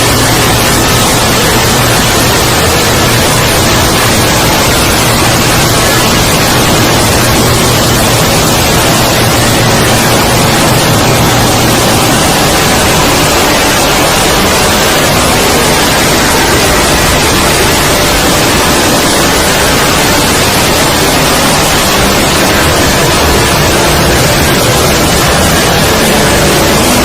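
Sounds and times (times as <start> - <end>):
static-like hiss: 0.0 - 27.0.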